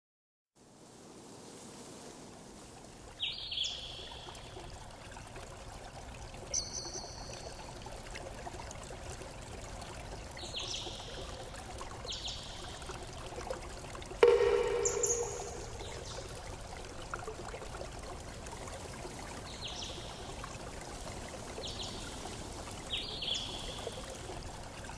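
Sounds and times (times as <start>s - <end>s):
running water rushing: 0.6s - 24.9s.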